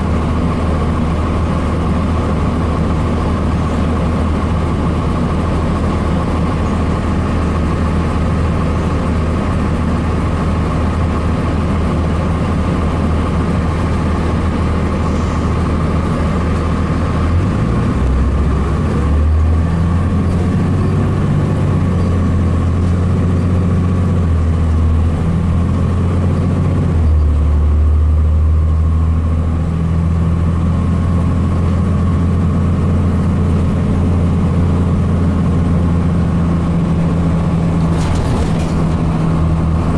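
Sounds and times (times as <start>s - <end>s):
diesel bus engine droning: 0.0s - 39.9s.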